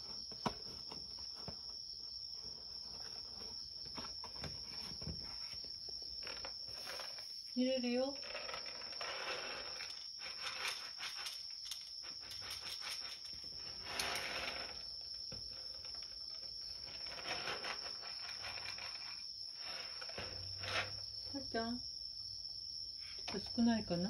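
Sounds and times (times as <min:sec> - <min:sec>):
rustling and shuffling: 0:00.0 - 0:21.3
crickets chirping: 0:00.0 - 0:24.0.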